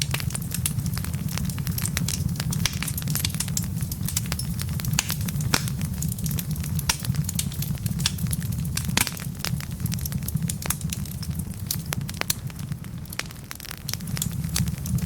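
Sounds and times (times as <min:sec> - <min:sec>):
logs crackling and popping: 0:00.0 - 0:15.0
low rumble of flame: 0:00.0 - 0:15.0.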